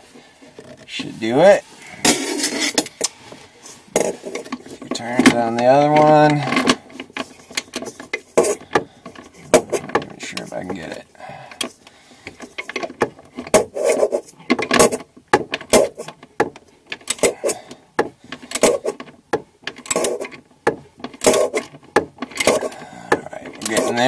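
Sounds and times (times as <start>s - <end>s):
wrench clicking and scraping: 2.0s - 3.2s, 4.0s - 16.3s, 16.9s - 24.0s.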